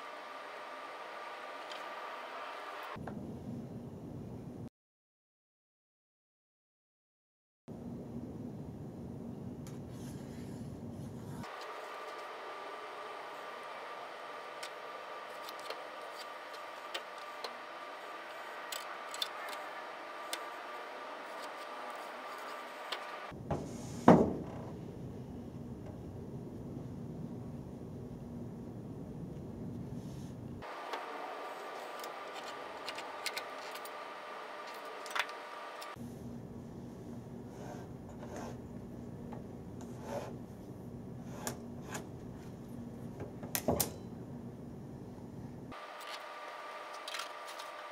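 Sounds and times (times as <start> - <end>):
steady hum: 0.0 - 4.7, 7.7 - 47.9.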